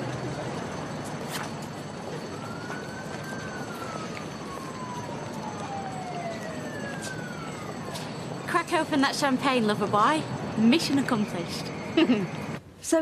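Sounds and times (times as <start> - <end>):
emergency vehicle siren wailing: 0.0 - 12.6
city street traffic hum: 0.0 - 13.0.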